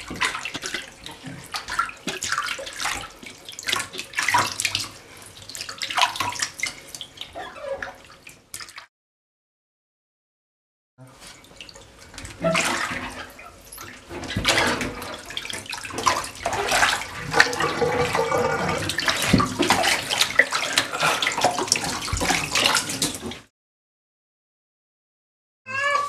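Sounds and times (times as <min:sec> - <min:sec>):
water splashing in bathtub: 0:00.0 - 0:08.9, 0:11.0 - 0:23.5.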